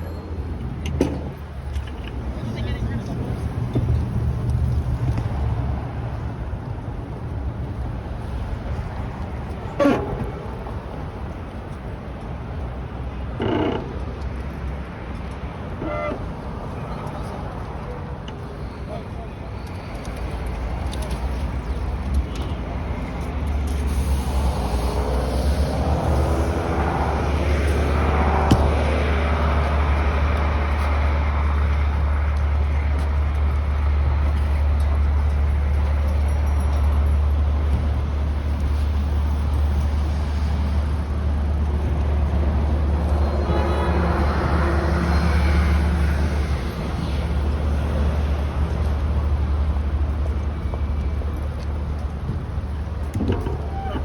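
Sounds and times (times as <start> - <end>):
city street traffic: 0.0 - 54.0
vehicle engine hum: 0.0 - 54.0.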